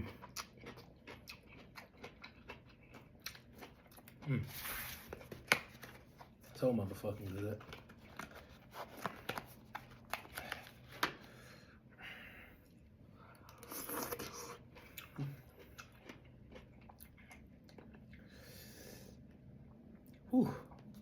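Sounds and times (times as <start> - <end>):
person chewing food: 0.0 - 6.6, 7.2 - 11.4, 12.6 - 21.0.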